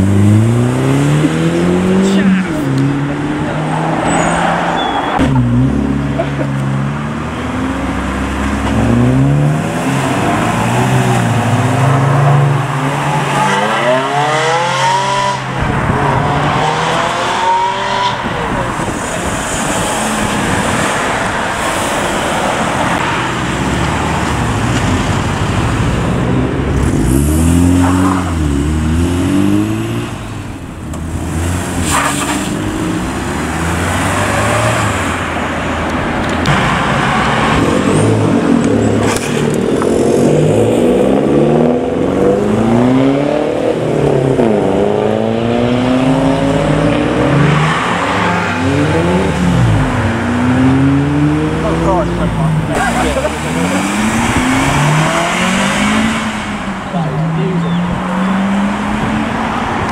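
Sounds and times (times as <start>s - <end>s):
car engines revving: 0.0s - 59.9s
tyre and road noise: 0.0s - 59.9s.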